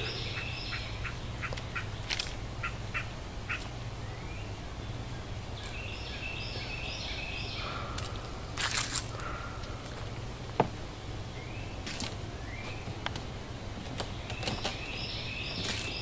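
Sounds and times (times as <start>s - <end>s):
low steady hum: 0.0s - 16.0s
songbirds chipping and singing: 0.0s - 16.0s.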